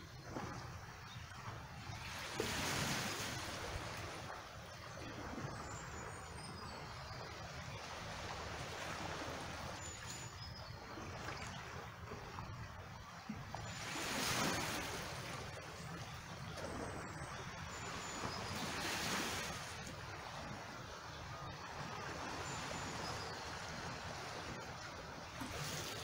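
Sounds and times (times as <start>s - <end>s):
waves lapping on rocky shore: 0.0s - 26.0s.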